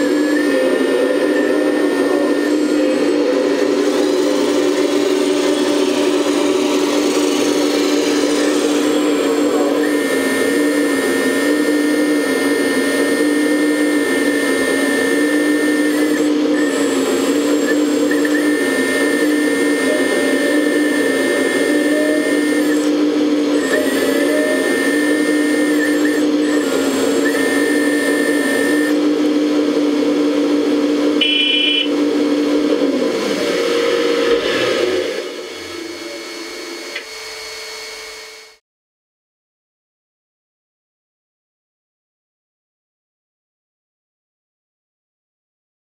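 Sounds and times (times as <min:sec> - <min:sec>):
higher hydraulic whine: 0:00.0 - 0:38.6
hydraulic pump electric whine: 0:00.0 - 0:38.6.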